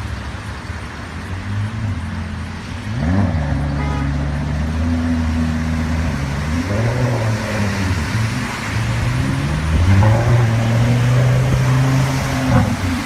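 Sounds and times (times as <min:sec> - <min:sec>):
car engine accelerating: 0:01.7 - 0:13.0.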